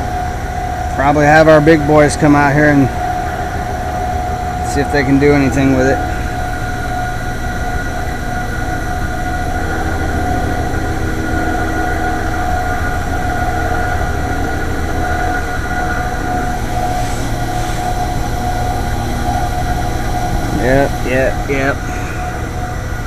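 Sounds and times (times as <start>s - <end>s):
fan motor rumbling and whining: 0.0s - 23.0s.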